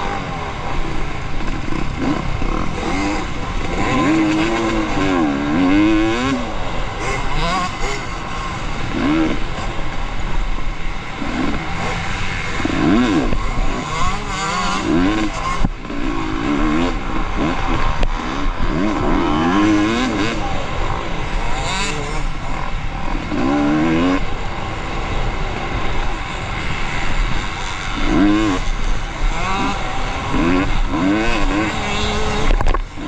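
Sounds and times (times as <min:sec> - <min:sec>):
motorcycle engines revving: 0:00.0 - 0:33.0.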